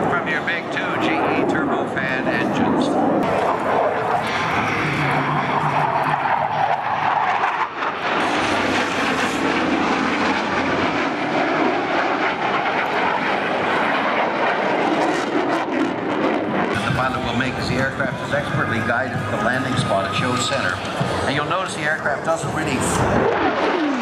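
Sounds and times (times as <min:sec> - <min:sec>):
jet engine rush: 0:00.0 - 0:24.0.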